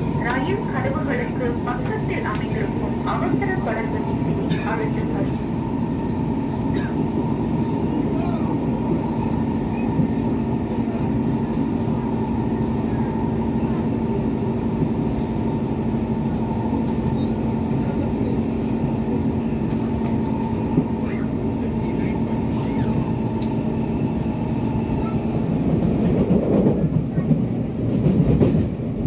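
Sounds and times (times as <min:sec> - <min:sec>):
rumble of train wheels on rail: 0:00.0 - 0:29.0.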